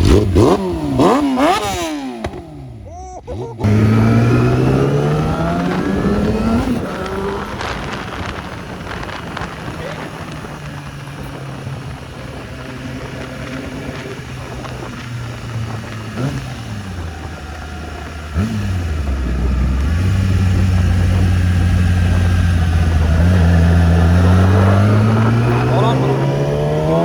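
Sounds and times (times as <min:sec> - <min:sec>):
vehicle engine idling and revving: 0:00.0 - 0:27.0.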